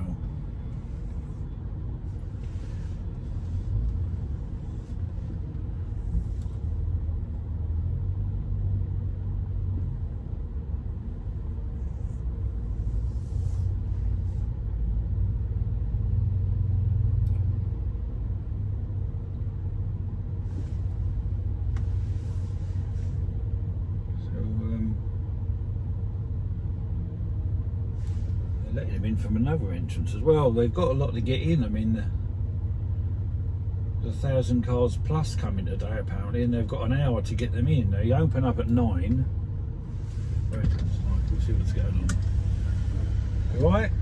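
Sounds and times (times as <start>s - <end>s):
car engine at low speed: 0.0s - 44.0s.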